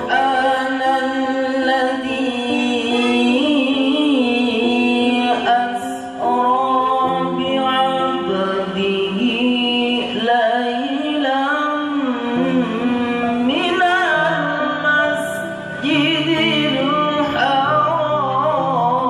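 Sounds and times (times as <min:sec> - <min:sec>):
person chanting with echo: 0:00.0 - 0:19.0.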